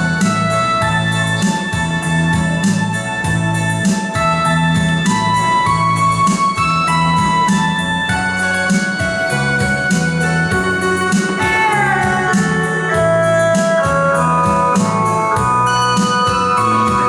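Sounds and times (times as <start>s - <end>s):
electronic keyboard music: 0.0s - 17.0s.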